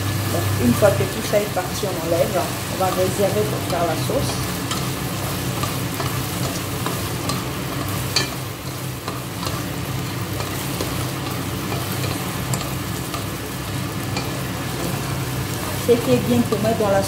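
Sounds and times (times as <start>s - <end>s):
okra sizzling in oil: 0.0s - 17.0s.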